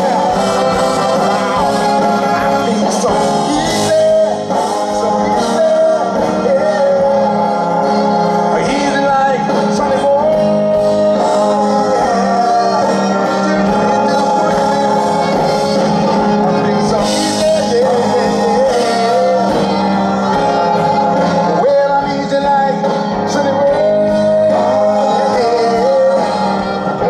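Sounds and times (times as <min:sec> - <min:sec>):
live band music over pa: 0:00.0 - 0:27.0
man singing long notes: 0:00.0 - 0:27.0.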